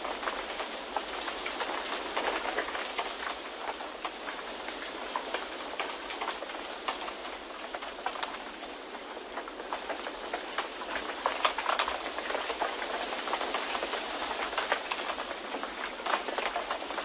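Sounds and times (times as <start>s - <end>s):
light crackles and ticks: 0.0s - 17.0s.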